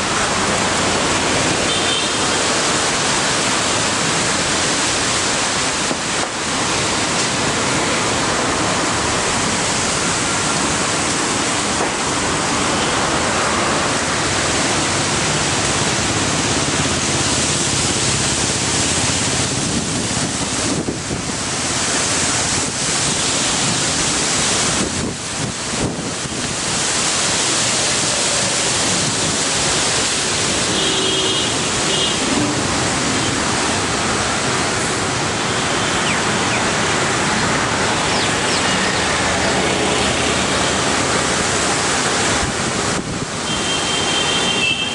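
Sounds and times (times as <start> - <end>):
strong wind through trees: 0.0 - 44.9.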